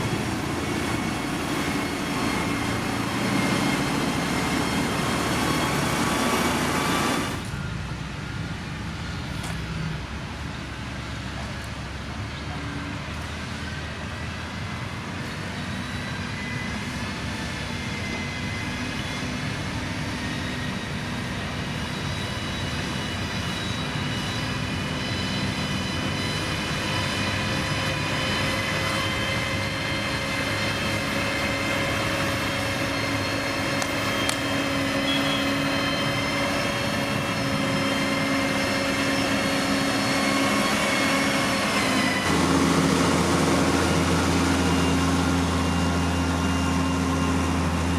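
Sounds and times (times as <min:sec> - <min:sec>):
heavy diesel engine whining: 0:00.0 - 0:47.9.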